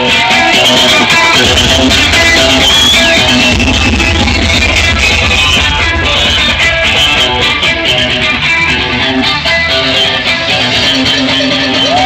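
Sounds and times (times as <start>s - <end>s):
loud guitar music: 0.0s - 12.0s.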